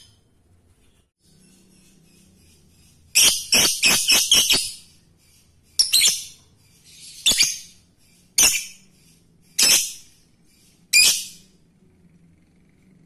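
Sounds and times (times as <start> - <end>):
lovebird chirping: 0.0 - 11.6.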